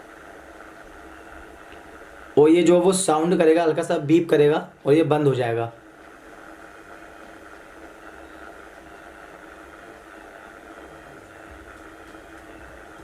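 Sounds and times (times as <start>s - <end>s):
hot water bag humming: 0.0s - 13.0s.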